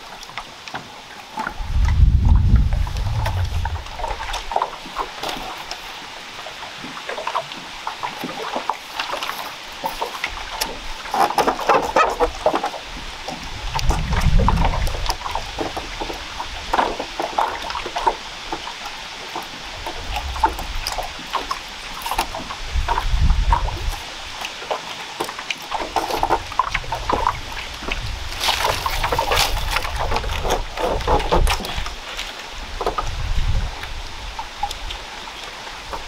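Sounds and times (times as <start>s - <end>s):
rustle of bamboo strips: 0.0s - 36.0s.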